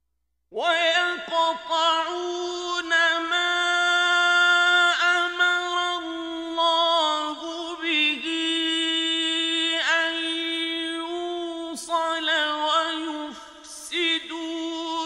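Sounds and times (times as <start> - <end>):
man chanting melodically: 0.5 - 15.0.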